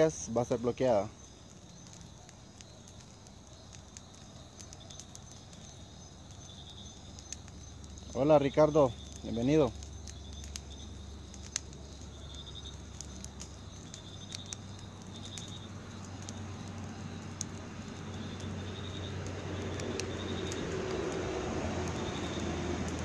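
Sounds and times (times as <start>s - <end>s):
crickets chirping: 0.0s - 23.0s
fire crackling and popping: 0.0s - 23.0s.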